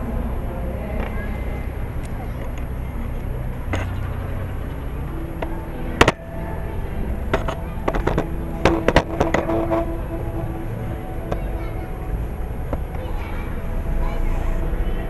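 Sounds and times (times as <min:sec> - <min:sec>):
faint music: 0:00.0 - 0:15.0
outdoor crowd noise: 0:00.0 - 0:15.0.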